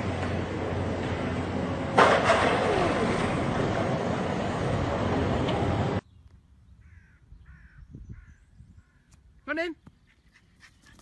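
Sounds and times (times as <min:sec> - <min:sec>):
outdoor noise: 0:00.0 - 0:11.0.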